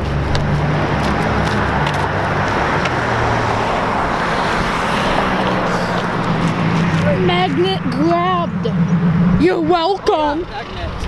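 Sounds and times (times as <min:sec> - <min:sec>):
low engine hum: 0:00.0 - 0:11.0
road rumble: 0:00.0 - 0:11.0.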